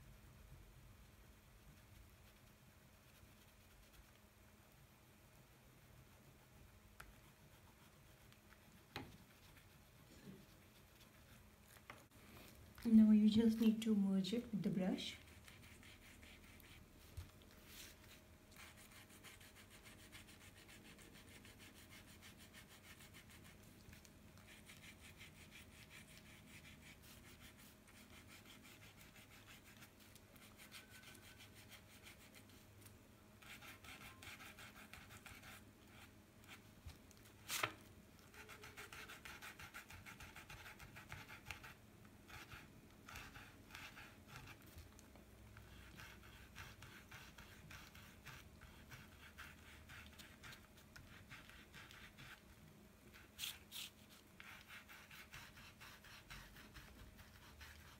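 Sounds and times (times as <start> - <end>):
low steady hum: 0.0 - 57.9
paintbrush scrubbing on paper: 1.6 - 11.9, 14.4 - 32.7, 33.4 - 45.0, 45.6 - 52.5, 53.1 - 57.9.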